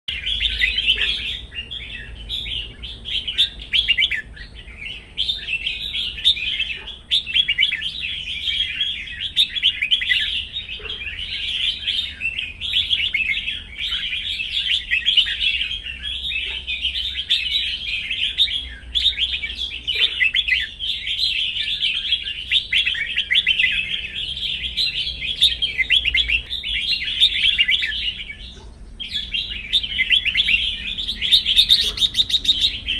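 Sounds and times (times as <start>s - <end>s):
bird singing chirping phrases: 0.1s - 32.9s.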